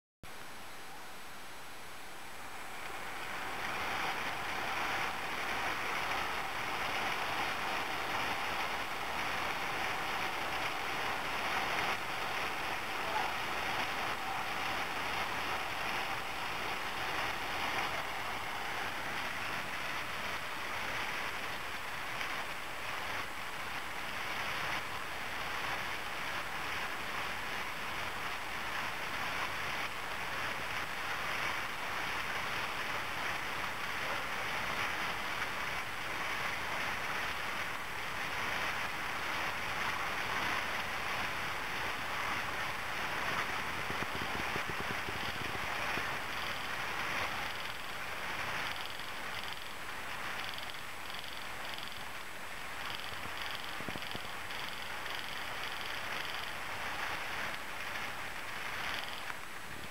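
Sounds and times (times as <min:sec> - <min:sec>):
steady rain falling: 0:00.3 - 0:59.9.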